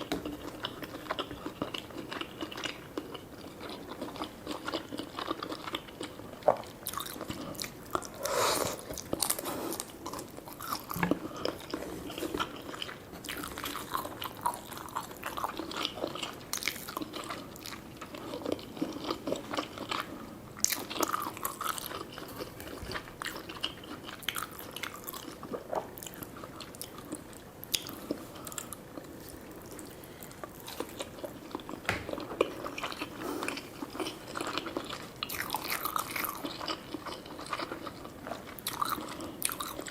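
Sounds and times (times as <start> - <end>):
chewing and biting food: 0.0 - 39.9.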